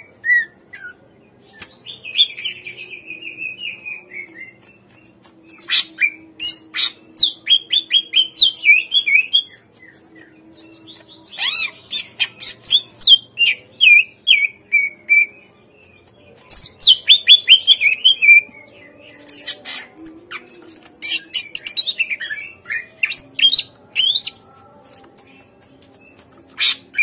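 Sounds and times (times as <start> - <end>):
bird whistling song: 0.0 - 24.4, 26.1 - 27.0.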